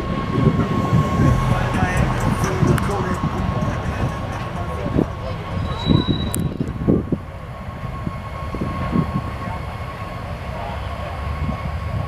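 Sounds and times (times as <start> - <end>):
thin whine: 0.0 - 10.4
freight train rumbling: 0.0 - 12.0.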